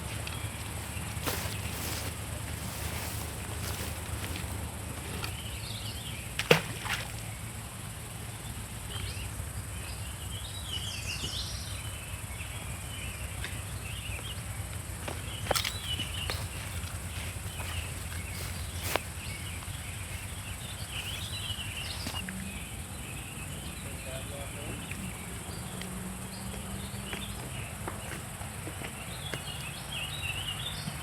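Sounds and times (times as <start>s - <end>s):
cricket chirps: 0.0s - 31.0s
insects droning: 0.0s - 31.0s.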